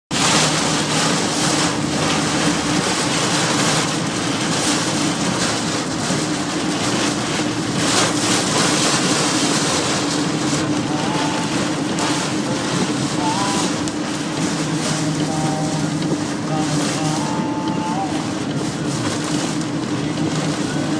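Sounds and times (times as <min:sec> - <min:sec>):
heavy rain on vehicle roof: 0:00.1 - 0:20.9
steady hum: 0:00.2 - 0:18.9.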